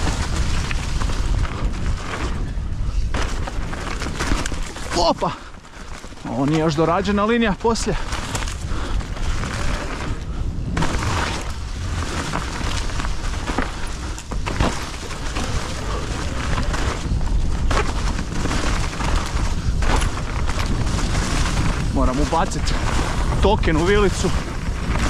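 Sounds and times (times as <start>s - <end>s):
bike clattering: 0.0s - 25.0s
wind buffeting microphone: 0.0s - 25.0s.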